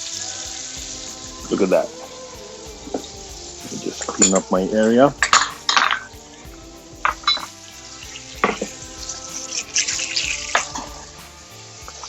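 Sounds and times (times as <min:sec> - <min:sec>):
faint background music: 0:00.0 - 0:12.0
pan sizzling: 0:00.0 - 0:12.0.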